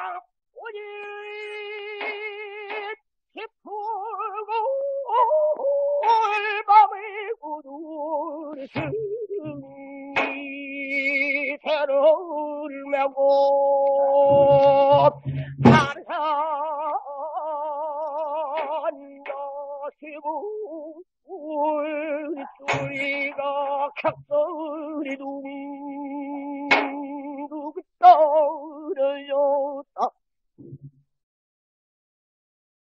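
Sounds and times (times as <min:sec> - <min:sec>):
person singing with vibrato: 0:00.0 - 0:30.2.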